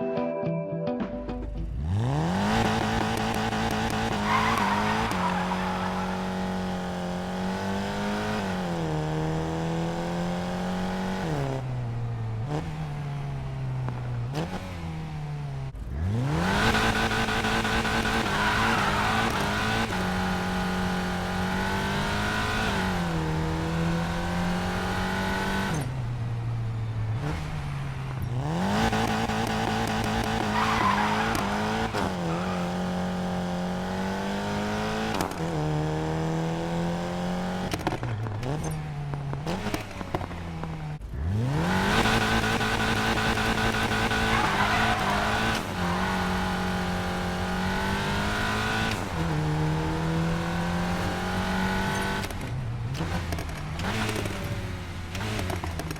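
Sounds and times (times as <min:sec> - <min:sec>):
car engine at full throttle: 0:01.6 - 0:55.9.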